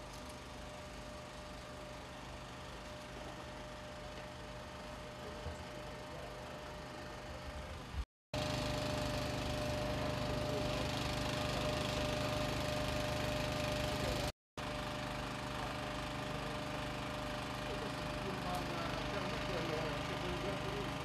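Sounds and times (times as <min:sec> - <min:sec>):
motor idling with faint whine: 0:00.0 - 0:21.0.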